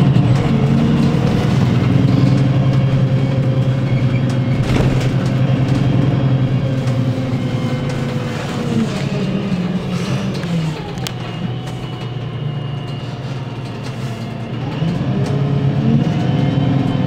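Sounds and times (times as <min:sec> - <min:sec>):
bus diesel engine drone: 0:00.0 - 0:17.0.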